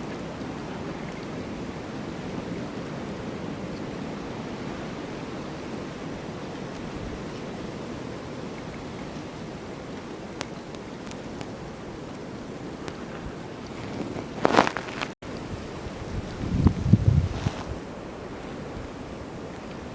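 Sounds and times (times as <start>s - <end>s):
snowstorm wind blowing: 0.0s - 19.9s.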